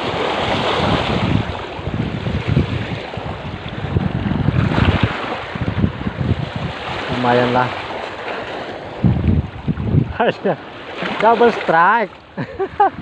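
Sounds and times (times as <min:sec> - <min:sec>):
wind buffeting microphone: 0:00.0 - 0:11.4, 0:12.3 - 0:13.0
waves splashing against rocks: 0:00.0 - 0:13.0.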